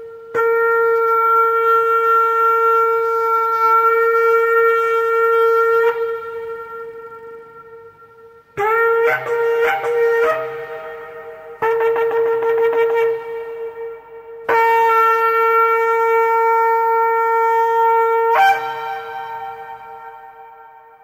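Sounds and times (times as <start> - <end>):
horn-like wind instrument blasts: 0.0 - 21.0.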